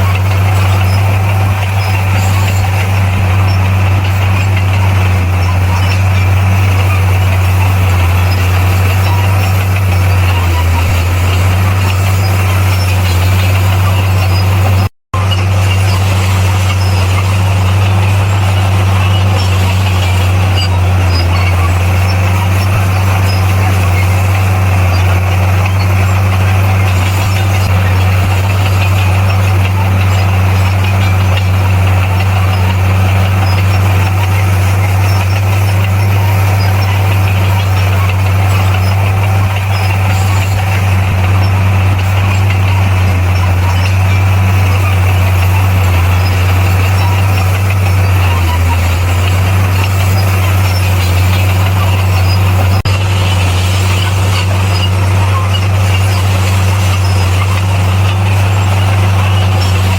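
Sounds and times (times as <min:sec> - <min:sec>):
heavy diesel engine humming: 0:00.0 - 0:59.9.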